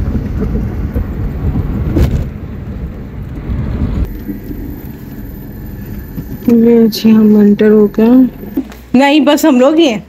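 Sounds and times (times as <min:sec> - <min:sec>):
car road and engine rumble: 0:00.0 - 0:09.0.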